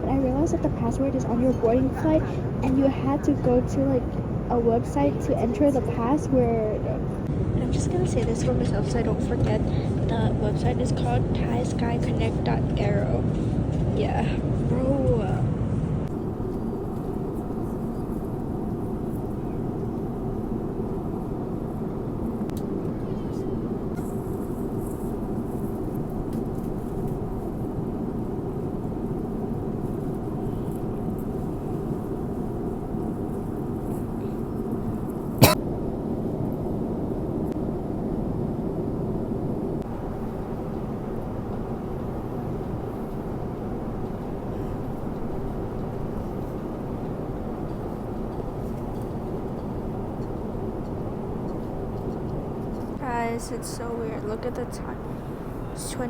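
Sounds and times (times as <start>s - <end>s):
airliner cabin rush: 0.0s - 56.0s.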